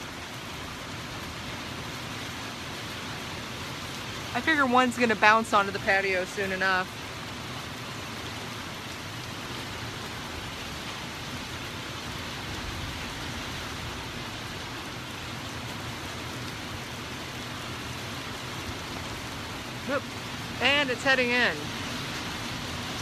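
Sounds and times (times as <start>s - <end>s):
storm wind and rain hiss: 0.0s - 23.0s.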